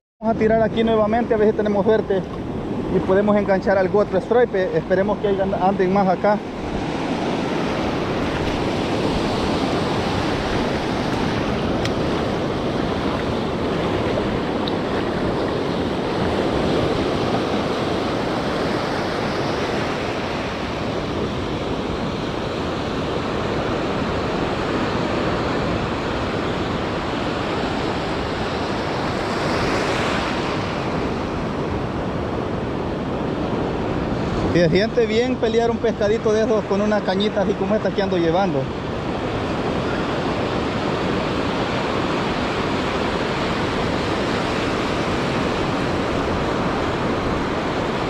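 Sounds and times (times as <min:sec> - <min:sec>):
ocean surf washing: 0:00.2 - 0:48.0.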